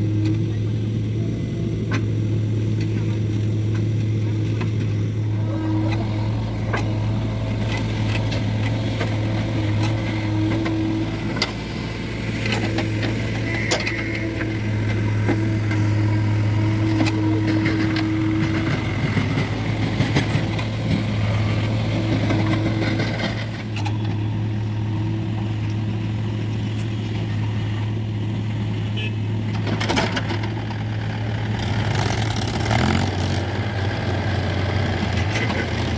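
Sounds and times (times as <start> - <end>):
engine revving: 0.0 - 27.6, 29.0 - 35.9
diesel engines running: 0.0 - 35.9.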